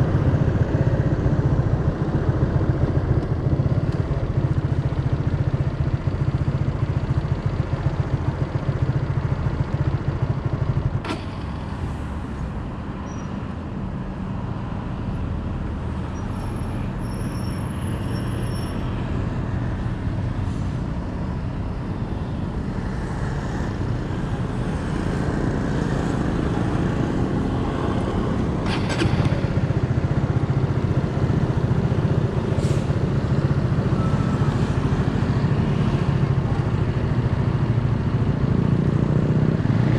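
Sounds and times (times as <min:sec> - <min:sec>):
vehicle engines running: 0:00.0 - 0:39.9.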